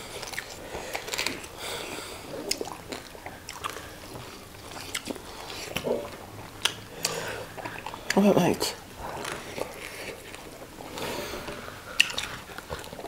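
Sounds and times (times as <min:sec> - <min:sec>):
wet chewing and mouth smacks: 0:00.0 - 0:13.0.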